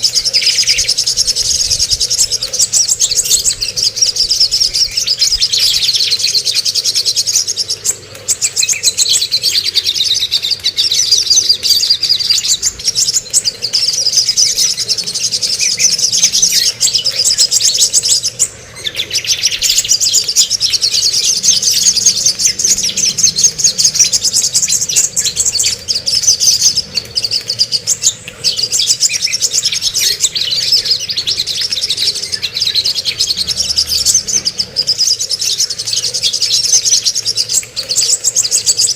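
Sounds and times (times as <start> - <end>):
songbirds chattering song: 0.0 - 38.9.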